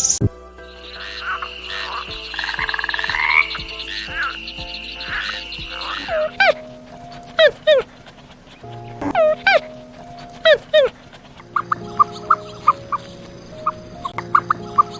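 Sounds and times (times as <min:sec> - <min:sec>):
frogs croaking: 0:00.0 - 0:14.9
steady high chorus: 0:00.0 - 0:14.9.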